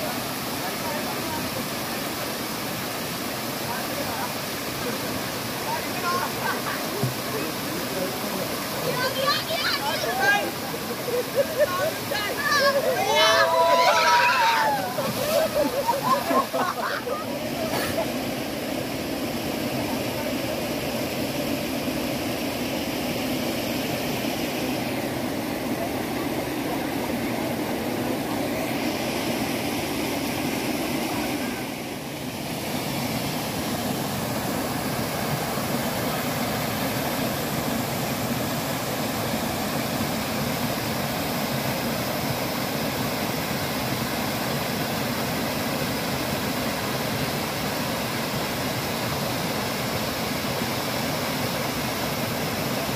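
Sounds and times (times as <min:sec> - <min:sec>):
waterfall splashing into pool: 0:00.0 - 0:52.9.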